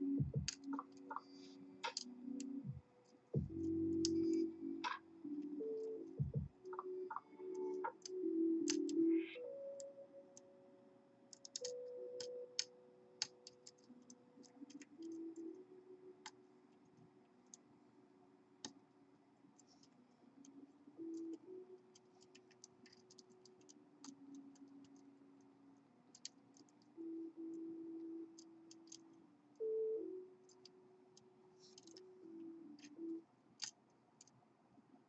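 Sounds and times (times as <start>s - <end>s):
soft background music: 0.0s - 35.0s.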